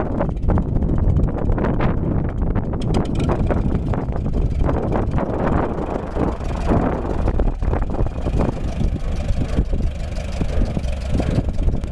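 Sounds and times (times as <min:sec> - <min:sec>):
tractor engine running: 0:00.0 - 0:11.9.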